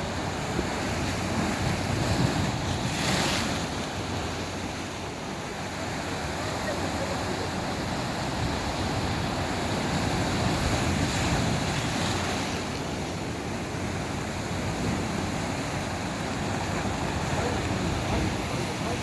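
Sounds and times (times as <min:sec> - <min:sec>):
sea surf washing ashore: 0:00.0 - 0:19.0.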